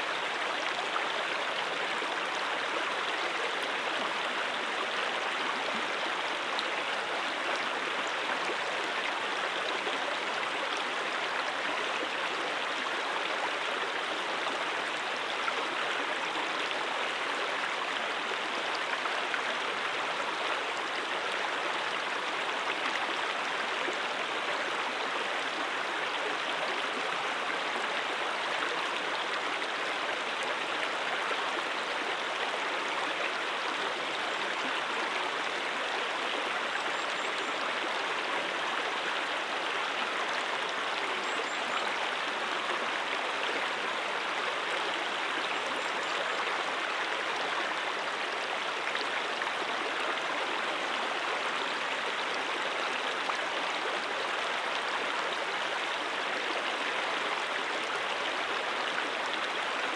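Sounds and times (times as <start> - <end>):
mountain stream flowing: 0.0 - 59.9.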